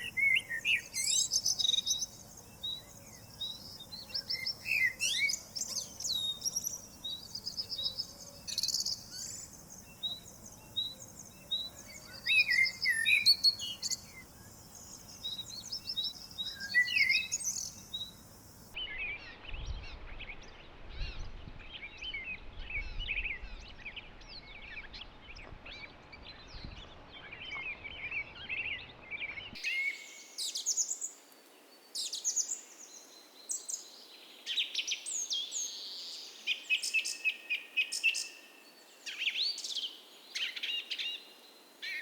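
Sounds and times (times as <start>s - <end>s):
songbirds chirping and singing: 0.0s - 42.0s.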